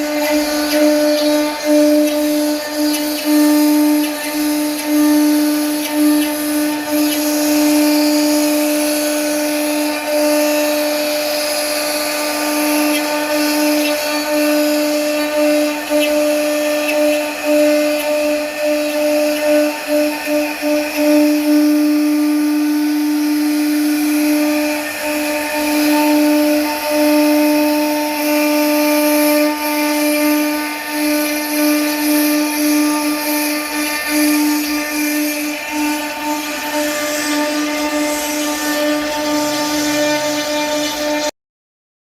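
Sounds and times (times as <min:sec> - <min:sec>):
router spindle whine and hiss: 0:00.0 - 0:41.3.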